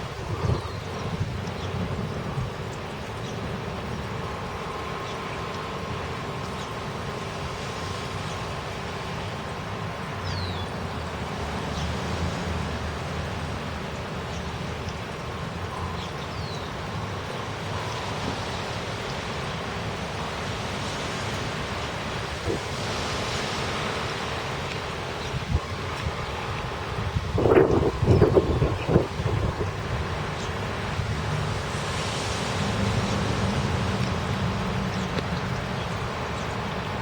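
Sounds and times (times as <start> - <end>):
wind and rain rushing: 0.0 - 37.0.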